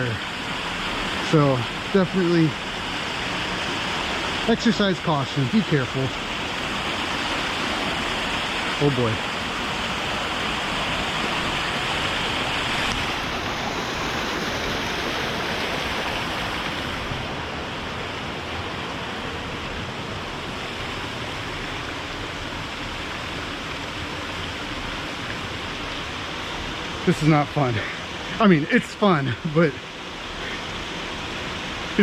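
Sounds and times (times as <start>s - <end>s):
brook water rushing over rocks: 0.0s - 32.0s.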